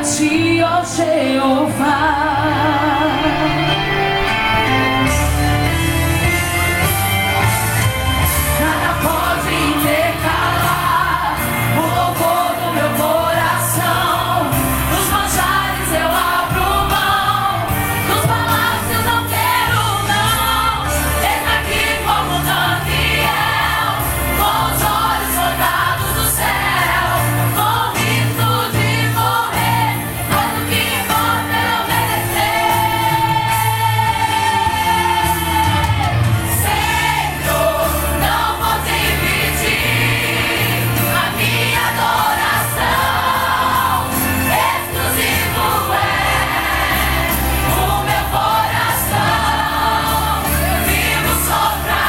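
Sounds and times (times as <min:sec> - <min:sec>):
group of voices singing: 0:00.0 - 0:52.0
band with bass and drums: 0:02.9 - 0:52.0.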